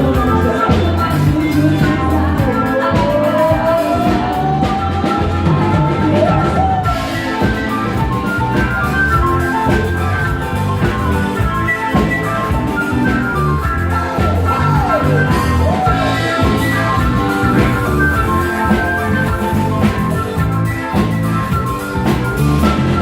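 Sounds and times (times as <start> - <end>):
band playing music: 0.0 - 23.0
drum kit beat: 0.0 - 23.0
lead melody sliding upward: 0.0 - 23.0.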